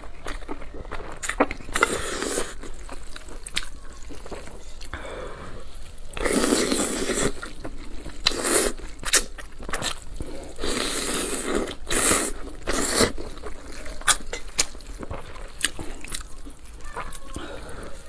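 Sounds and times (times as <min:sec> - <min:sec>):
wet chewing and slurping: 0:00.0 - 0:18.0.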